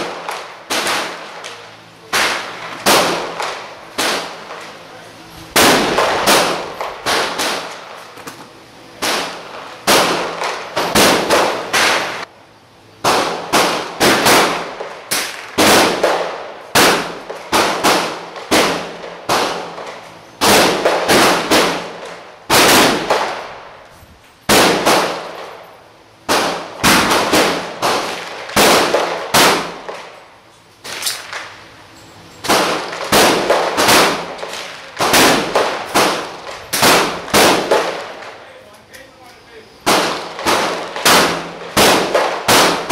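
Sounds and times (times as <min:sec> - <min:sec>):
rifle shots echoing: 0:00.0 - 0:08.1, 0:09.0 - 0:12.3, 0:13.0 - 0:23.8, 0:24.5 - 0:25.6, 0:26.3 - 0:30.2, 0:32.4 - 0:38.4, 0:39.8 - 0:42.9.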